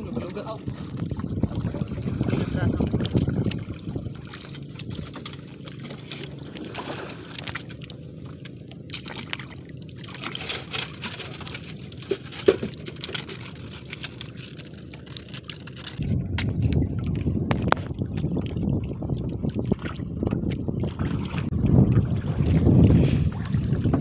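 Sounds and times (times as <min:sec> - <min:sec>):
water sloshing against canoe: 0:00.0 - 0:24.0
paddle strokes in water: 0:00.6 - 0:24.0.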